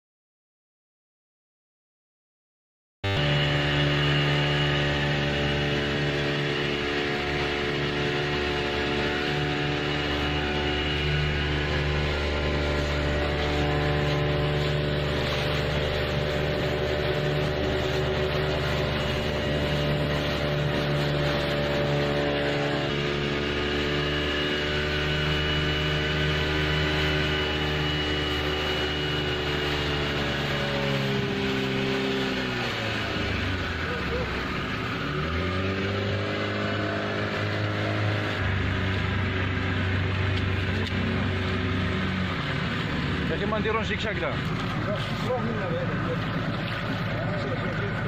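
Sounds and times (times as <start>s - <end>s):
boat engine running: 3.0s - 48.0s
wind and water rushing: 3.0s - 48.0s.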